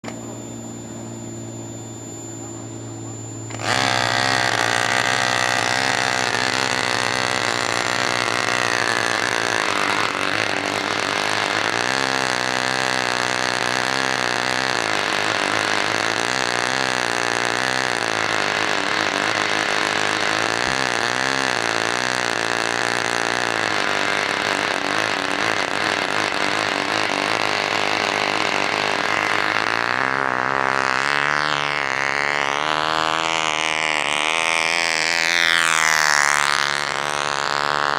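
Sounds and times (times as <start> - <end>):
model airplane engine running: 0.0 - 37.9.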